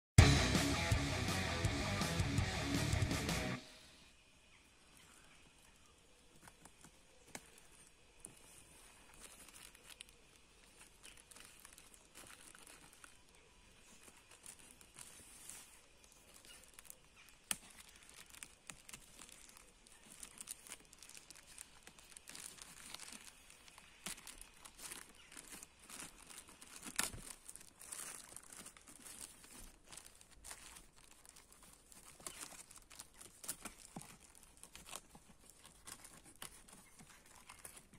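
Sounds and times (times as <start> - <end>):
plastic wrapping crinkling: 4.5 - 37.9.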